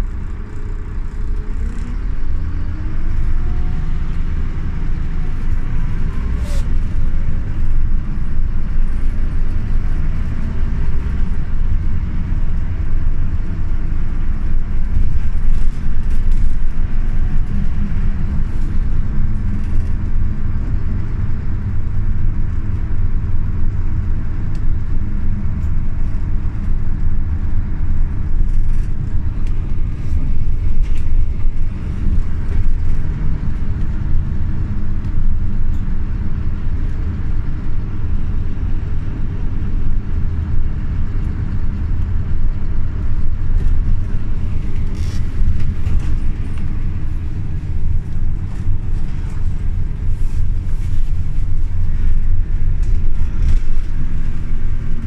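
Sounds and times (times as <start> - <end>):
bus diesel engine rumble: 0.0 - 55.0.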